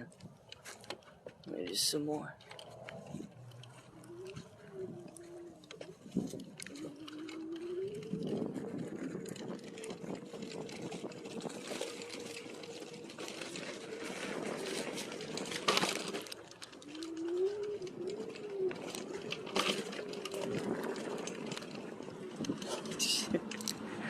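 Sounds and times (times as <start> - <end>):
electric scooter motor whining: 2.5 - 24.0.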